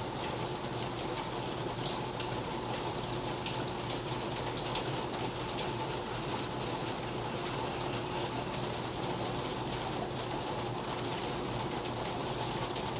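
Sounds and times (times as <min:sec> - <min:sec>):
rain falling: 0:00.0 - 0:12.9
raindrops ticking on a surface: 0:00.0 - 0:12.9.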